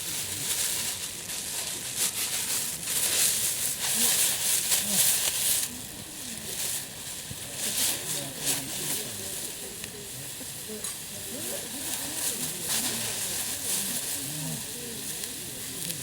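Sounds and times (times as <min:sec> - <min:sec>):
campfire crackling: 0:00.0 - 0:16.0
food sizzling in a skillet: 0:03.0 - 0:16.0.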